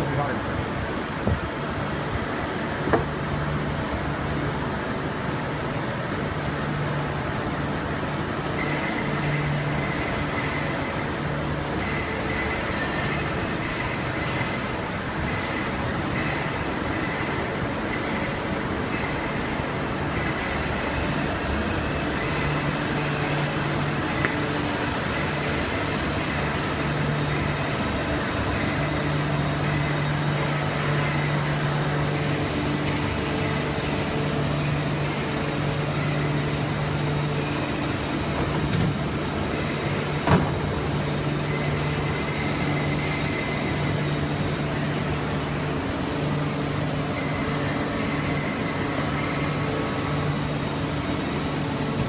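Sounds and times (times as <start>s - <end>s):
industrial machinery hum: 0.0s - 52.0s
low machine drone: 0.0s - 52.0s.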